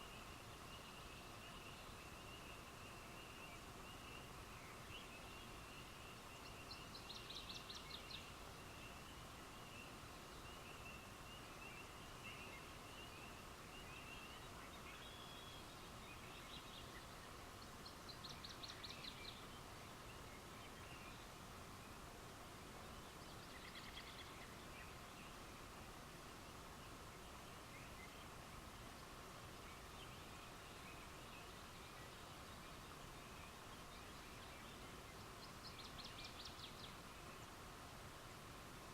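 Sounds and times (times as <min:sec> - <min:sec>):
faint high drone and hiss: 0:00.0 - 0:38.9.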